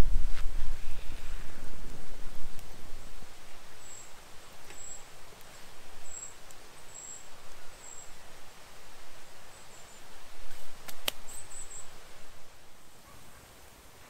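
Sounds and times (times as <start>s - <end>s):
forest ambience: 0.0s - 14.0s.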